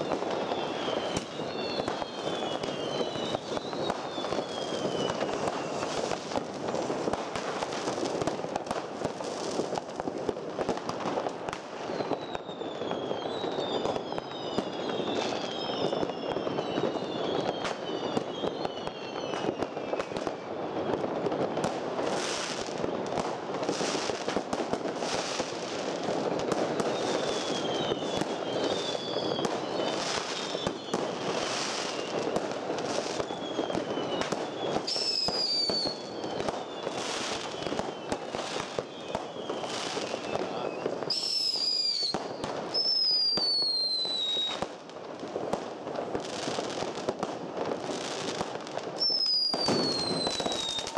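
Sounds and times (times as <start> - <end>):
falling firework whistles: 0.0 - 50.9
fireworks bangs: 0.0 - 50.9
fireworks crackling: 0.0 - 50.9.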